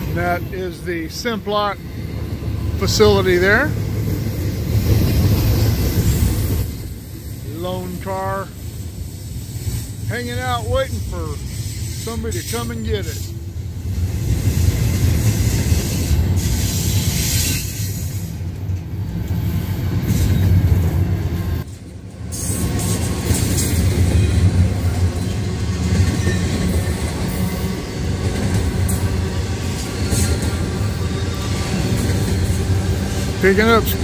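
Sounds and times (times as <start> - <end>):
freight train wheels rumbling on rail: 0.0 - 34.0.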